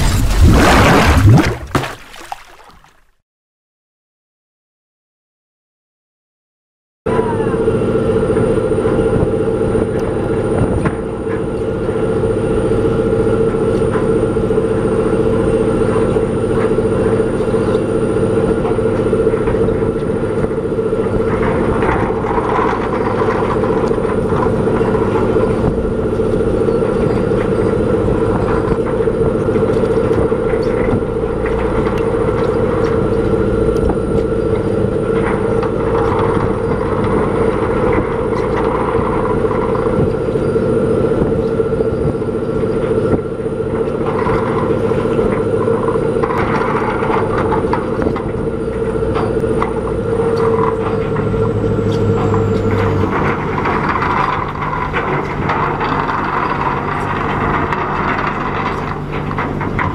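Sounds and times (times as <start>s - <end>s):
boat engine and hydraulic machinery: 0.0s - 3.2s, 7.1s - 59.9s.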